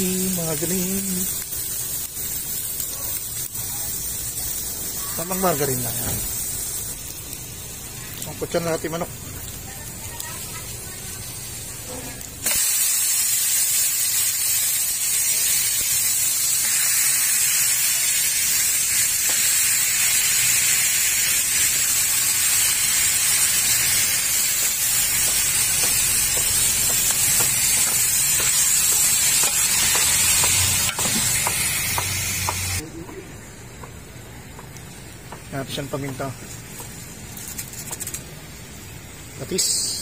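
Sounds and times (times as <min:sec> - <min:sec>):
chicken sizzling in a pot: 0:00.0 - 0:40.0.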